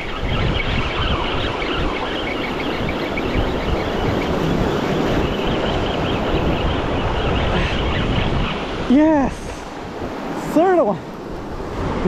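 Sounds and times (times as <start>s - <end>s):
wind buffeting microphone: 0.0s - 12.0s
surf washing against rocks: 2.3s - 12.0s.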